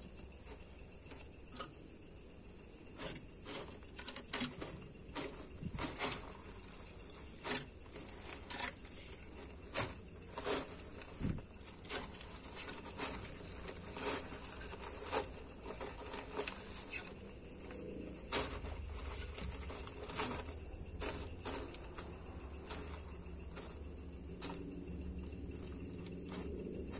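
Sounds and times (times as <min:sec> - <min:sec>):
animals scraping on bark chips: 0:02.9 - 0:26.9.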